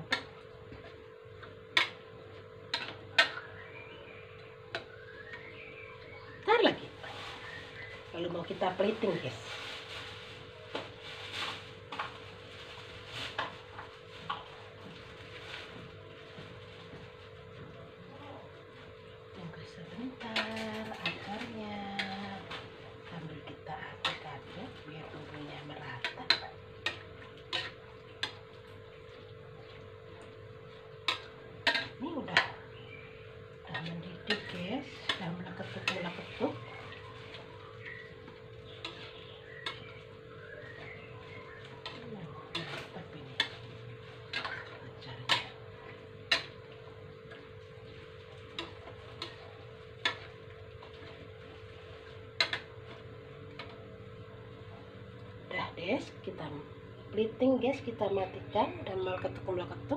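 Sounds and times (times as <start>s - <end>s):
induction cooker hum: 0.0s - 59.9s.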